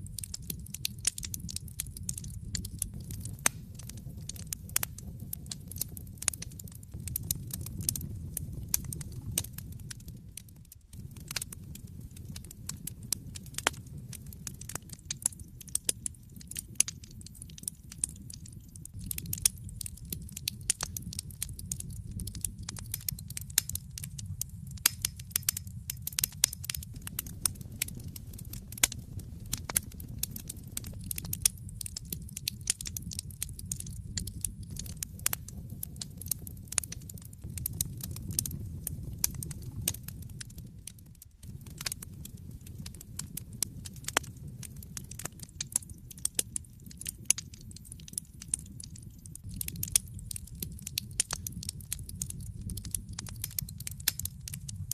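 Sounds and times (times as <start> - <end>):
burning logs crackling and popping: 0.0 - 54.9
low rumble of flames: 0.0 - 54.9.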